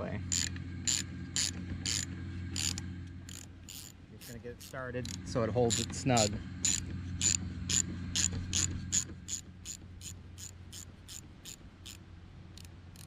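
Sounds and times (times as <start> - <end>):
ratchet wrench clicking: 0.3 - 13.0.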